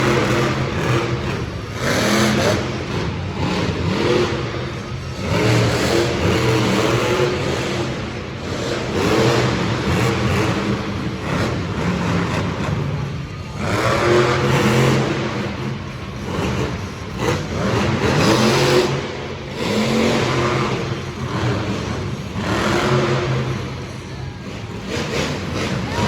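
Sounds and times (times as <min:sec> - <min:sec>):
engines revving hard: 0:00.0 - 0:26.0.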